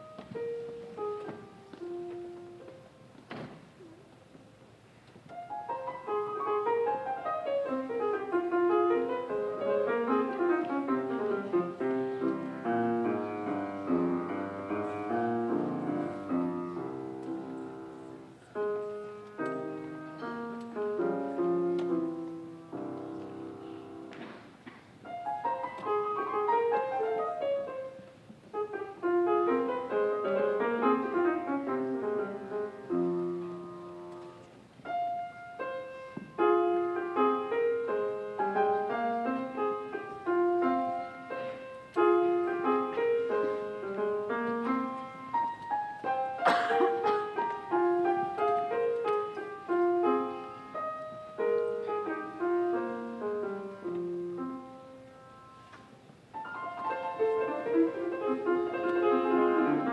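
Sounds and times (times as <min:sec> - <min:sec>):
grand piano playing: 0:00.0 - 0:59.9.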